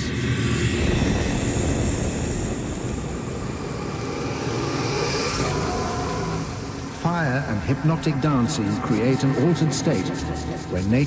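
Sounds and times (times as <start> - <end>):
rumbling low end: 0.0 - 9.0
noisy synth drone: 0.0 - 11.0.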